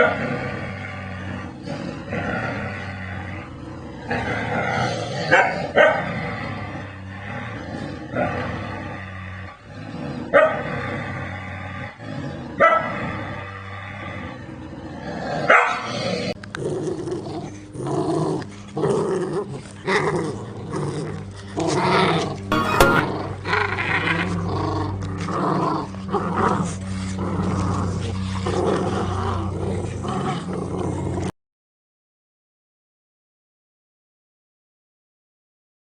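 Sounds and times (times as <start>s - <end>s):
large dogs growling and barking: 0.0s - 22.6s, 23.2s - 31.3s.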